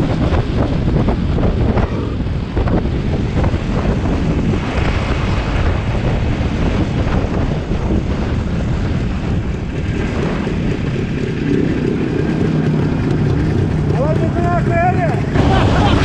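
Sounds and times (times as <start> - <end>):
motorcycle engine rumble: 0.0 - 16.0
wind buffeting microphone: 0.0 - 16.0.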